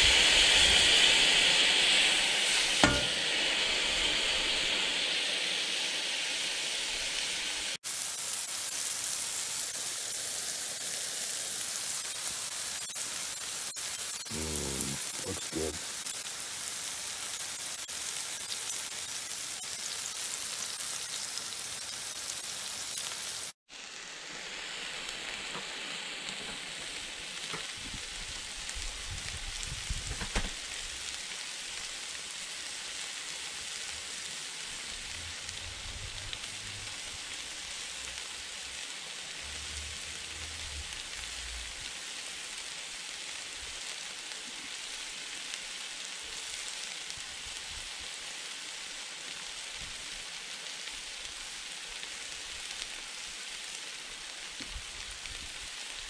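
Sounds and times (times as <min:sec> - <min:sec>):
meat and peppers sizzling on griddle: 0:00.0 - 0:56.0.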